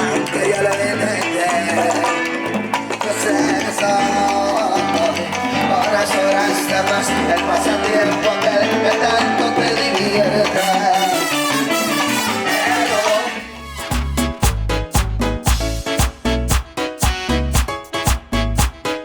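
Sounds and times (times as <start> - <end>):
latin dance orchestra playing: 0.0 - 19.0.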